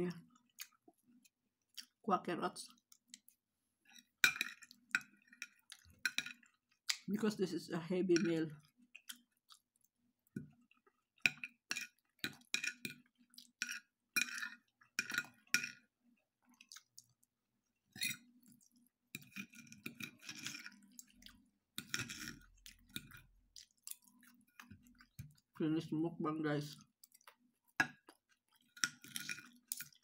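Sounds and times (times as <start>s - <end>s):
chewing: 0.2s - 2.0s, 2.7s - 7.1s, 8.6s - 15.5s, 16.4s - 17.3s, 17.9s - 25.6s, 26.7s - 30.0s.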